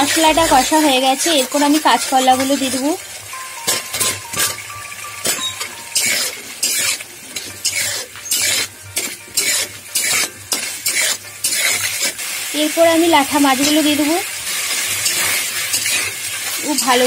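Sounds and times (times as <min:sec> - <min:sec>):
metal spatula scraping a pan: 0:00.0 - 0:02.9, 0:03.7 - 0:12.5, 0:13.5 - 0:17.0
light sizzle: 0:00.0 - 0:17.0.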